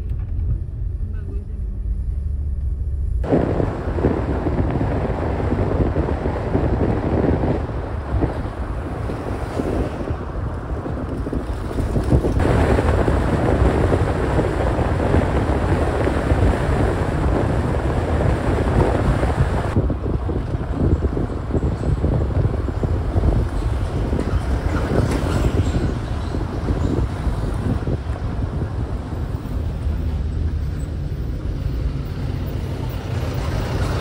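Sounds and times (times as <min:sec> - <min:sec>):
road noise rumble: 0:00.0 - 0:34.0
wind buffeting microphone: 0:02.8 - 0:34.0.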